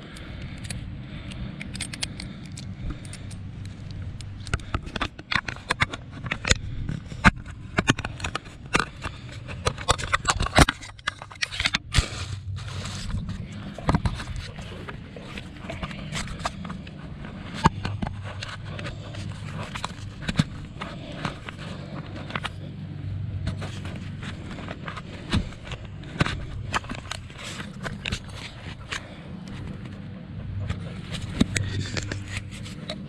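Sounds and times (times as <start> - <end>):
steady low hum: 0.0 - 33.0
camera knocking and scraping: 1.6 - 33.0.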